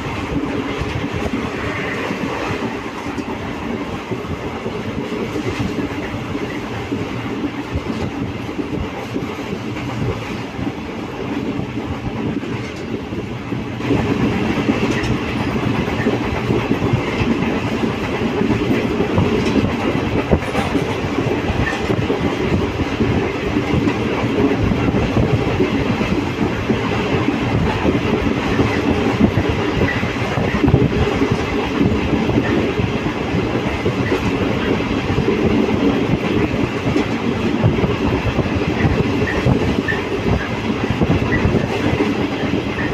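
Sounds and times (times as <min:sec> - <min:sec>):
train rumbling on track: 0:00.0 - 0:42.9.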